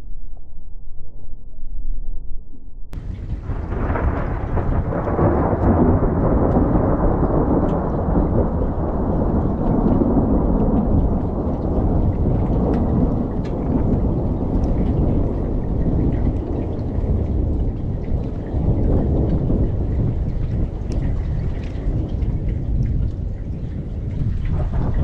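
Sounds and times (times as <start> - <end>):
sharp ticks of hailstones: 3.0 - 23.1
hail pelting down: 3.0 - 25.0.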